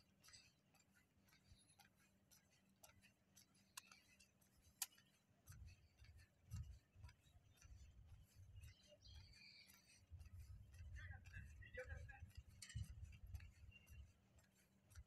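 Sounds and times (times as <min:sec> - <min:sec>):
faint scattered clicks: 0:00.0 - 0:15.0.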